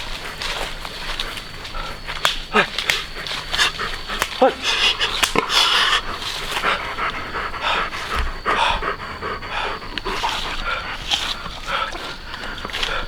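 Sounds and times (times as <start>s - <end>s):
animal panting: 0.0s - 13.0s.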